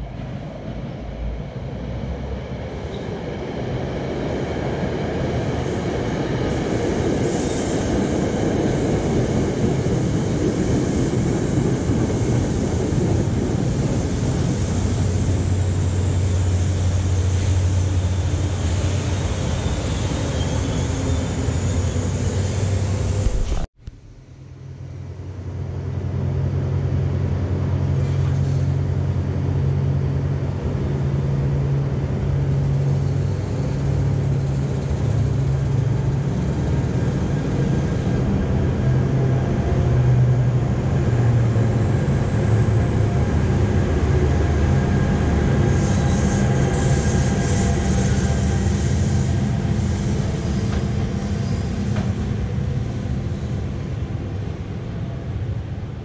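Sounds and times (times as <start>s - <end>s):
train passing: 0.0s - 23.7s, 24.3s - 56.0s.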